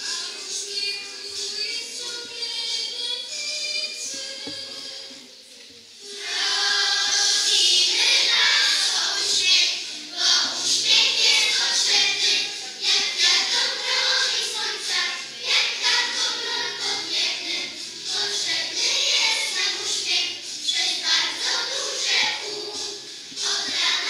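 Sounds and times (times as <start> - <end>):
children singing: 0.0 - 5.3, 6.0 - 24.0
music: 0.0 - 24.0.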